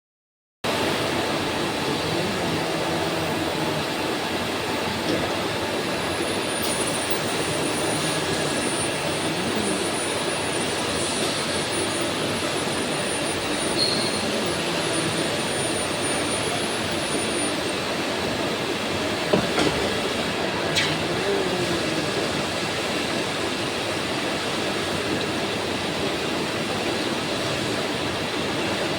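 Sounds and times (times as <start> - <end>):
factory machinery din: 0.7 - 28.2.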